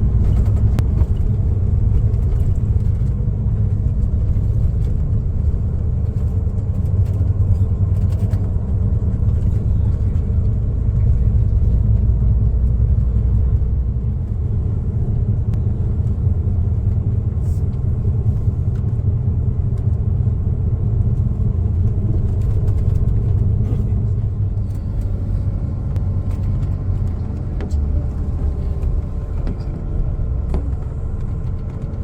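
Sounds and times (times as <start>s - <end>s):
bus engine and road rumble: 0.0s - 32.0s.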